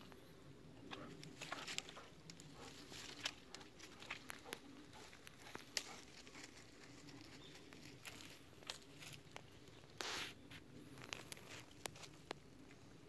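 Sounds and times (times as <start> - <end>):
twigs and leaves crackling: 0.8 - 13.0.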